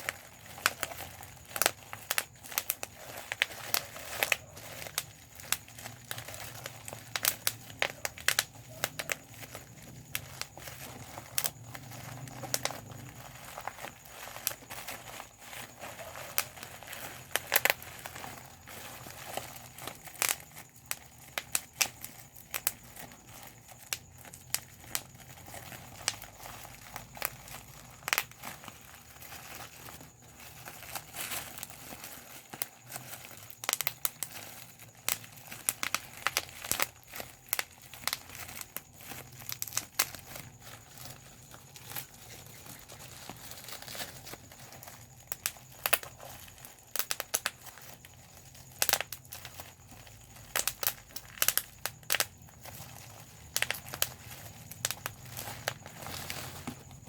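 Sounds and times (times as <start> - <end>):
bubble wrap popping: 0.0 - 57.0
plastic sheet crinkling: 0.0 - 57.0.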